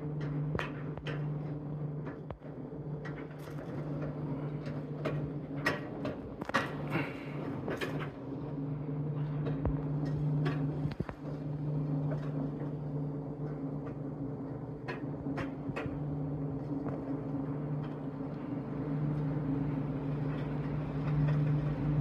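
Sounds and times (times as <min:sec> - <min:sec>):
suspended rail car humming: 0:00.0 - 0:22.0.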